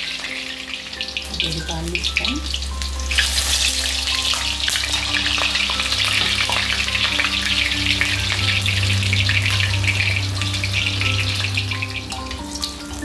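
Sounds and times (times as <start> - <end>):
tofu sizzling in hot oil: 0.0 - 13.0.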